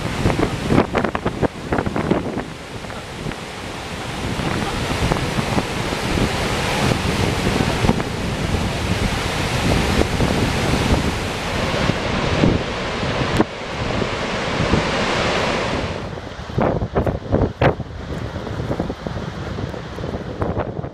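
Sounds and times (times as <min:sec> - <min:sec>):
waterfall rushing: 0:00.0 - 0:20.3
wind buffeting microphone: 0:00.0 - 0:20.9.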